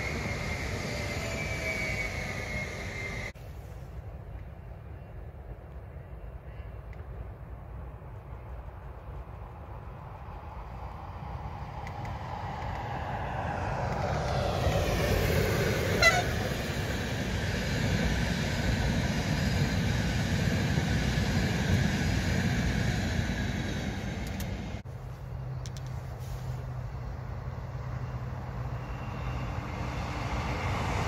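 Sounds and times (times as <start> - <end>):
train wheels rumbling on rail: 0.0 - 3.5, 6.5 - 31.0.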